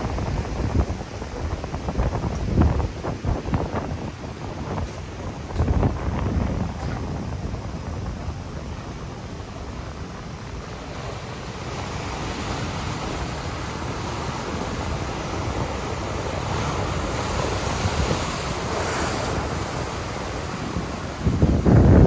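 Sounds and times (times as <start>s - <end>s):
large waves breaking: 0.0s - 22.0s
wind buffeting microphone: 0.0s - 22.0s.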